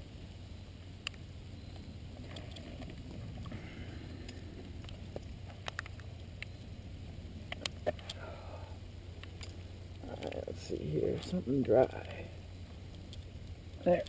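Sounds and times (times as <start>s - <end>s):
climbing gear clicks: 1.0s - 6.7s, 7.4s - 14.0s.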